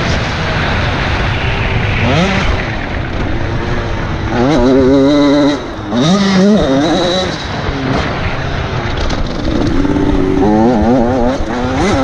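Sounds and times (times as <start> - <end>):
motocross bike engine revving: 1.9 - 12.0.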